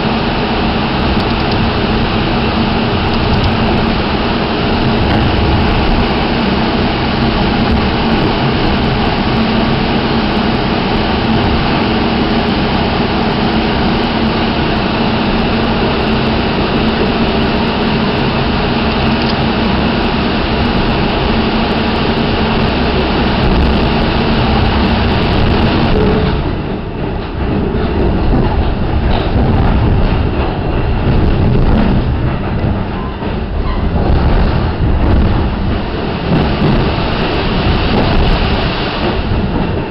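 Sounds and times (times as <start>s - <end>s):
constant low hum: 0.0s - 39.9s
train wheels rumbling on rail: 0.0s - 39.9s.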